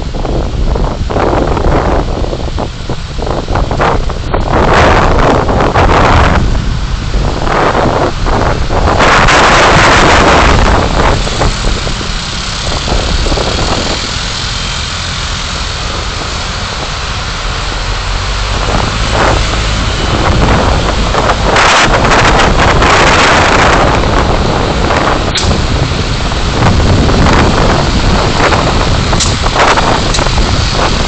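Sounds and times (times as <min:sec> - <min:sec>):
road rumble: 0:00.0 - 0:31.0
wind and tyre noise: 0:00.0 - 0:31.0.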